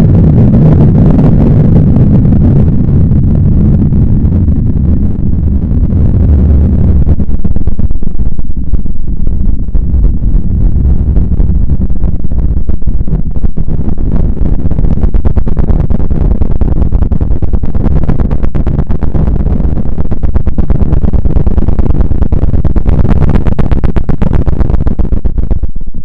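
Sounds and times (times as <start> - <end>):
dense crackling: 0.0 - 26.0
loud steady deep rumble: 0.0 - 26.0.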